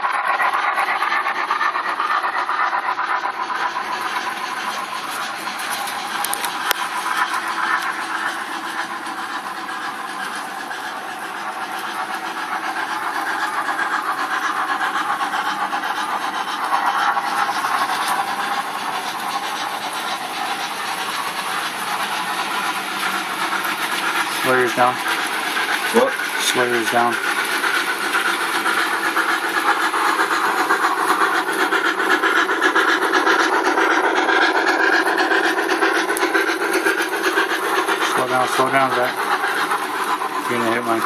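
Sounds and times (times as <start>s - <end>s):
model train running on track: 0.0s - 41.0s
steam-like hiss: 0.0s - 41.0s.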